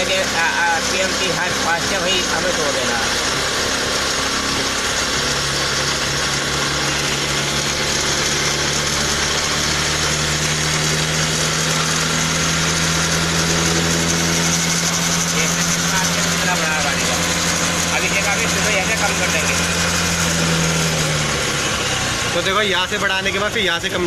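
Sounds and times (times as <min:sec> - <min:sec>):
scooter engine idling fast: 0:00.0 - 0:24.0.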